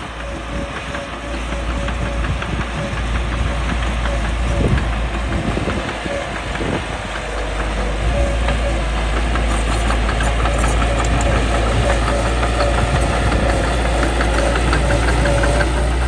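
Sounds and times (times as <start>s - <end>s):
bulldozer diesel engine rumbling: 0.0s - 16.0s
thin whining tone: 0.0s - 16.0s.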